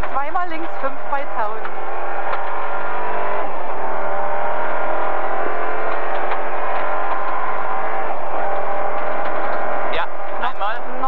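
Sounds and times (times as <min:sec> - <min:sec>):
rally car engine running hard: 0:00.0 - 0:11.0.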